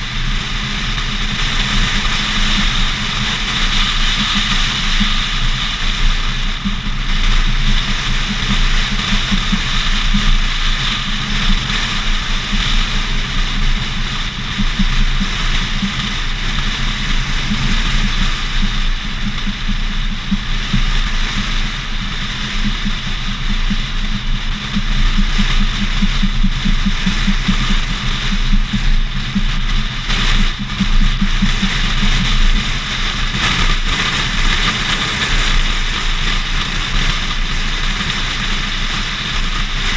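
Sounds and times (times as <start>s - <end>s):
car road noise: 0.0s - 39.9s
wind rumble on microphone: 0.0s - 39.9s.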